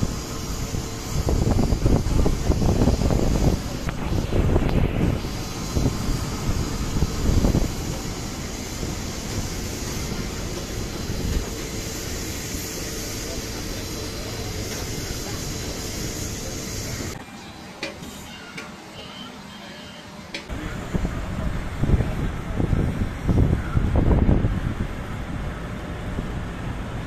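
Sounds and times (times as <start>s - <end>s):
airliner engine drone: 0.0s - 27.0s.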